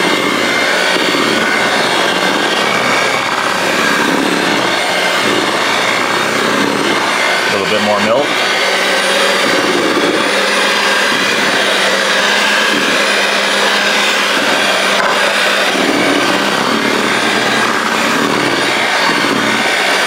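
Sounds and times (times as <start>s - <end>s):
electric hand mixer whipping: 0.0s - 20.0s.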